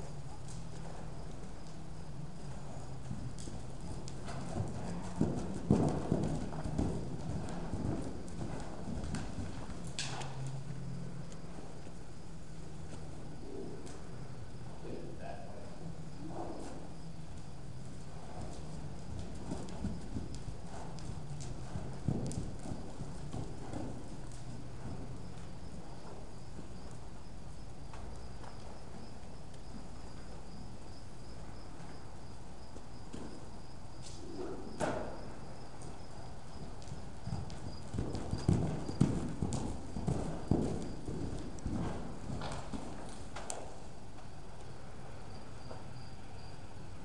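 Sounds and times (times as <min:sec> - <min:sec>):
horse hoofbeats on dirt: 0:00.0 - 0:14.2, 0:16.1 - 0:46.5.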